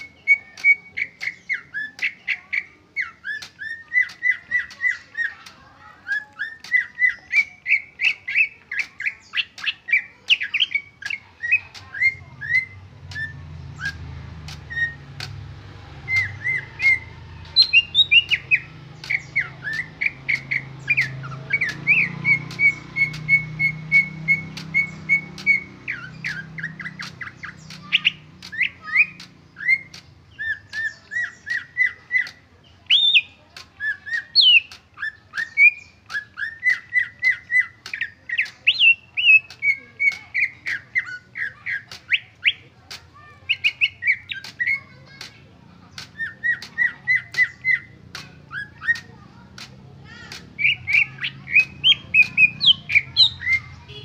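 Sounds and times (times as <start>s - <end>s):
bird singing whistled notes: 0.0s - 45.3s, 45.9s - 49.4s, 50.1s - 54.0s.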